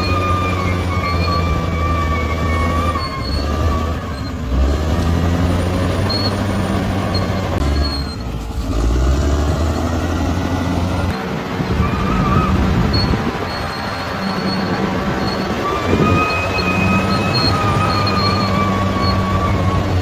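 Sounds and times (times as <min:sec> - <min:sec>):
bulldozer diesel engine: 0:00.0 - 0:20.0
steel tracks squeaking: 0:00.0 - 0:20.0.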